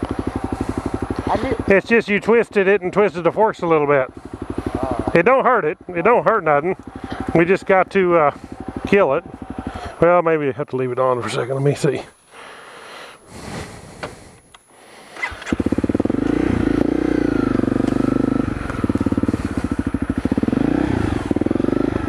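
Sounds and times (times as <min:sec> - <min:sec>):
motorcycle engine starting and idling: 0:00.0 - 0:11.1, 0:13.7 - 0:22.0.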